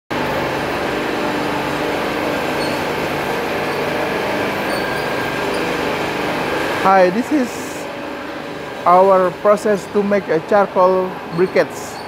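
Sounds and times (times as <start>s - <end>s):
factory machinery running: 0.1s - 12.0s
low machine hums: 0.1s - 12.0s.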